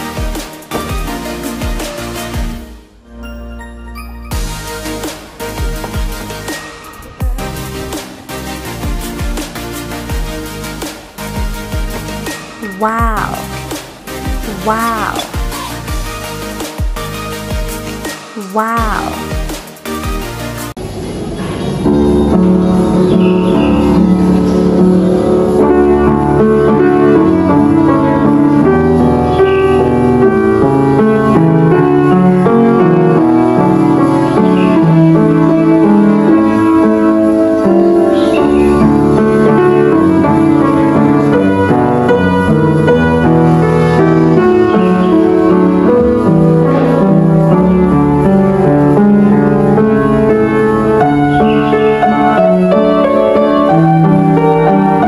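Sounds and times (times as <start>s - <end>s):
upright piano playing: 0.0s - 20.9s, 21.6s - 55.0s.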